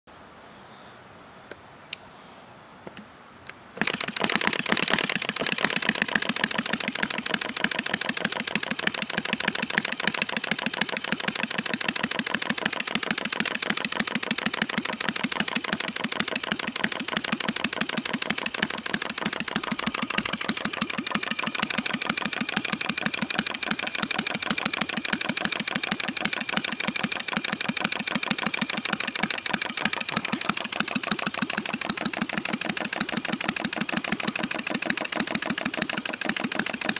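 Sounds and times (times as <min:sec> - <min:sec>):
model engine running: 0:03.8 - 0:36.9
sharp firing clicks: 0:03.8 - 0:36.9.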